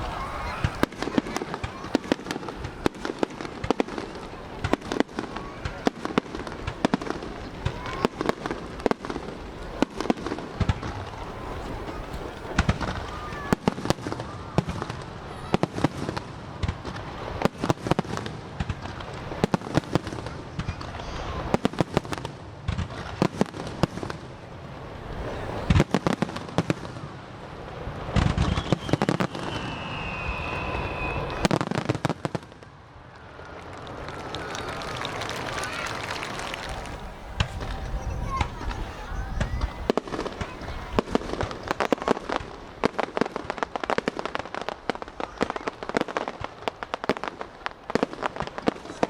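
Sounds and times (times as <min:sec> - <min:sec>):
fireworks bangs and crackling: 0:00.0 - 0:49.0
spectators' voices: 0:00.0 - 0:49.0.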